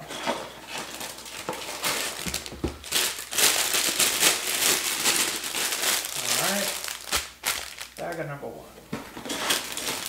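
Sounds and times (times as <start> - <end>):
plastic bags crinkling: 0.6 - 8.3, 9.2 - 10.0.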